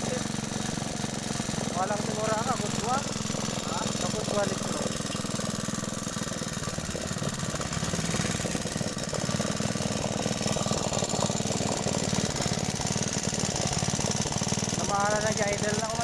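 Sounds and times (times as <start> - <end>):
small engine puttering: 0.0 - 16.0.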